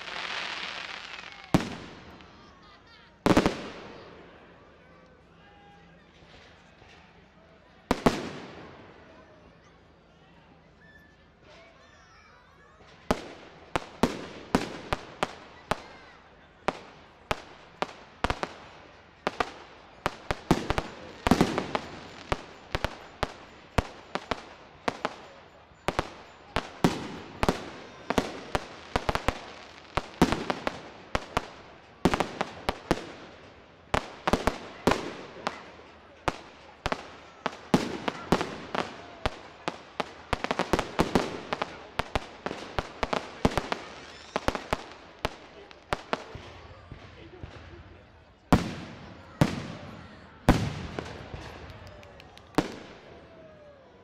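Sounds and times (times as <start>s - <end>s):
fireworks bursting with bangs: 0.0s - 2.5s, 3.2s - 4.3s, 7.9s - 9.0s, 12.8s - 53.6s.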